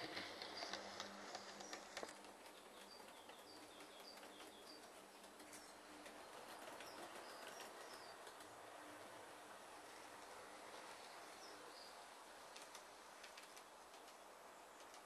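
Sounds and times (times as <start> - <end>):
faint birds chirping: 0.0 - 15.0
low hiss: 0.0 - 15.0.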